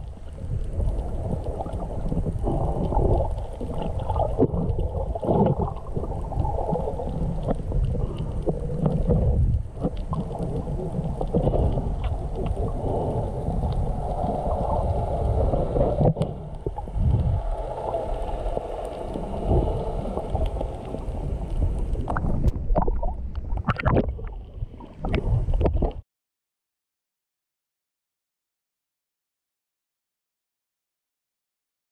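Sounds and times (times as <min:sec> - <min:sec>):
underwater rumble of water: 0:00.0 - 0:26.0.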